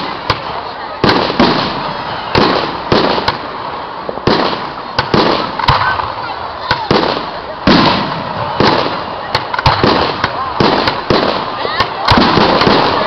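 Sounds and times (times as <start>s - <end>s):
fireworks bursting with rumble: 0.0s - 13.0s
sharp firework cracks: 0.0s - 13.0s.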